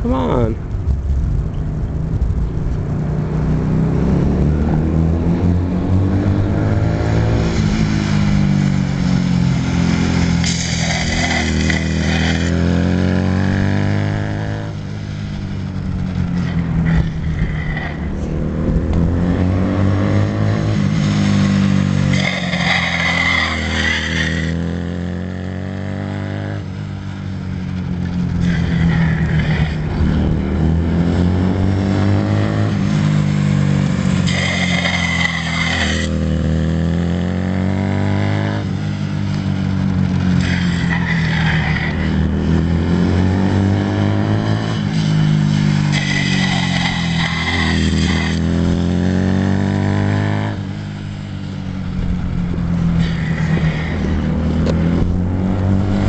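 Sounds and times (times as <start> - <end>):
small motorcycles revving: 3.9 - 26.8, 27.9 - 56.0.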